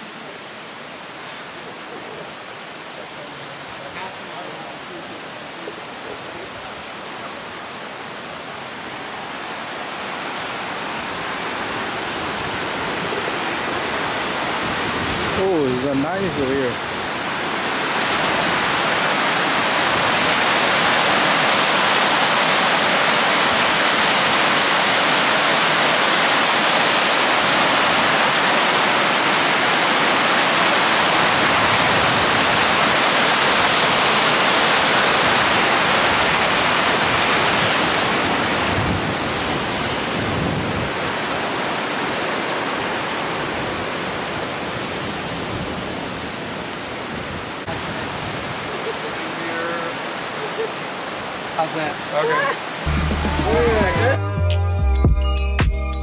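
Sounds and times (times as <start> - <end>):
water cascading over rocks: 0.0 - 54.2.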